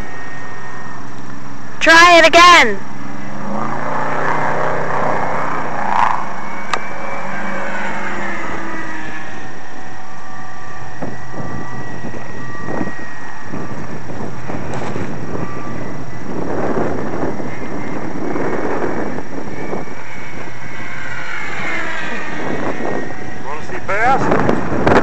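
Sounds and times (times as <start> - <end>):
model plane motor whine: 0.0 - 25.0
wind on microphone: 2.8 - 25.0.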